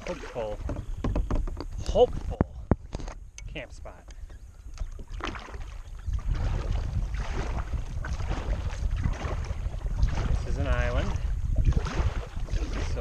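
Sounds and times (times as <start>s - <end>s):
paddle splashing in water: 0.0s - 2.9s, 4.7s - 13.0s
wind buffeting microphone: 0.0s - 13.0s.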